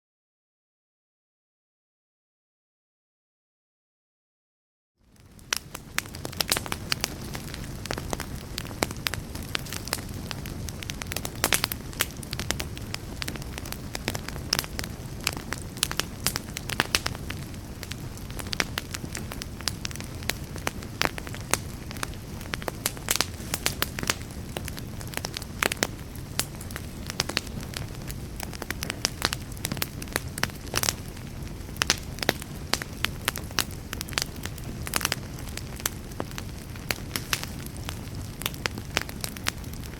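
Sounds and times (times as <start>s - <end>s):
burning logs crackling and popping: 5.0s - 39.9s
fire rumbling: 5.0s - 39.9s.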